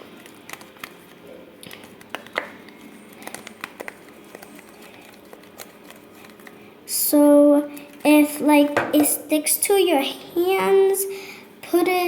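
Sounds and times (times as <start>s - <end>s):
slime stirred in a bowl: 0.0s - 9.7s.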